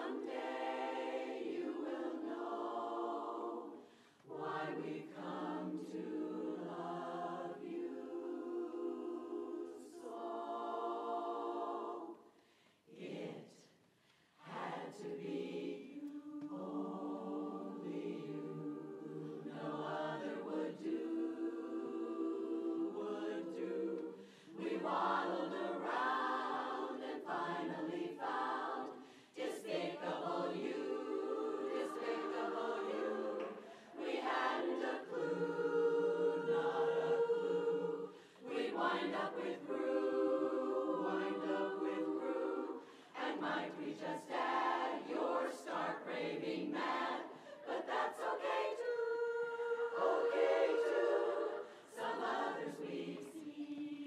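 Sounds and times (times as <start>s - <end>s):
women's chorus singing a cappella: 0.0s - 54.0s.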